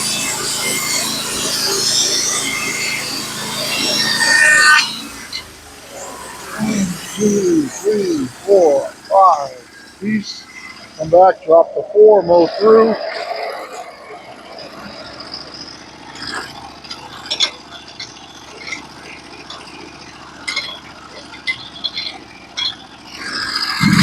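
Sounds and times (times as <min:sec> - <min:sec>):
sawmill engine running: 0:00.0 - 0:24.0.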